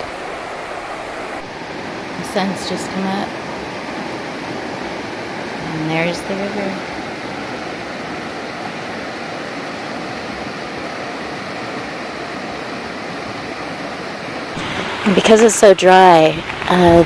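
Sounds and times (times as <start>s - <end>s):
mountain river rushing: 0.0s - 17.0s.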